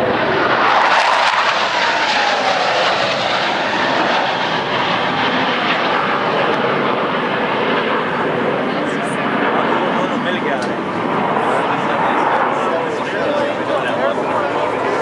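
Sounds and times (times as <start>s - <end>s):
jet engine whine dropping in pitch: 0.0s - 15.0s
jet low pass: 0.0s - 15.0s.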